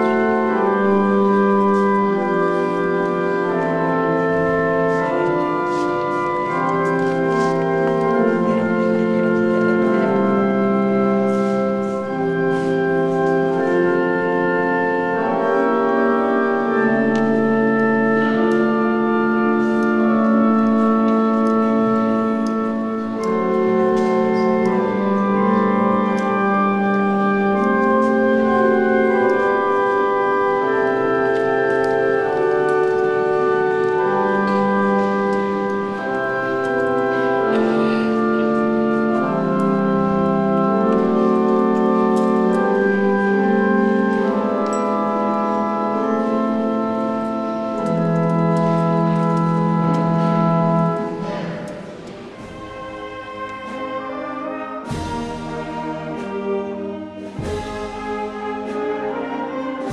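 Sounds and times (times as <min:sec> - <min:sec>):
organ playing held chords: 0:00.0 - 0:59.9.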